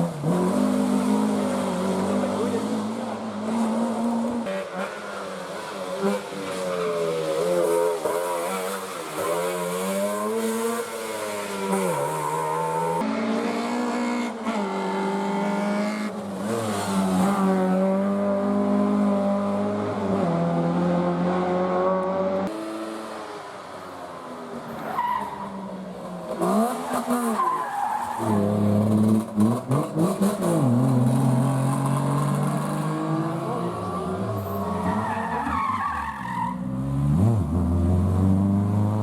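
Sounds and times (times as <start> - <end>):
rally car engines at full throttle: 0.0 - 39.0.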